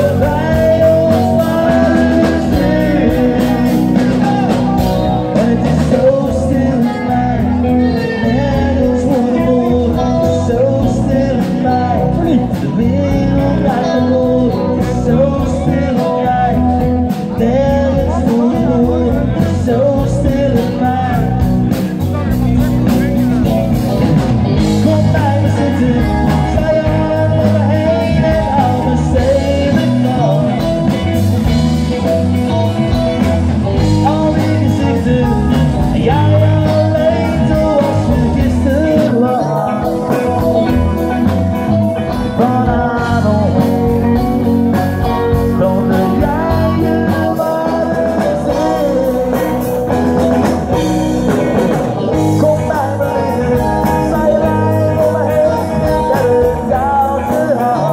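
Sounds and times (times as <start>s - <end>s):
lead singer singing: 0.0s - 57.9s
live band playing pop-rock: 0.0s - 57.9s.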